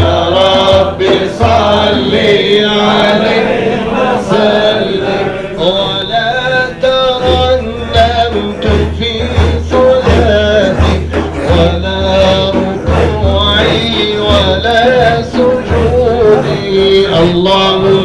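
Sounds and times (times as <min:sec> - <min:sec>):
deep steady drum beat: 0:00.0 - 0:18.0
men chanting and singing: 0:00.0 - 0:18.0.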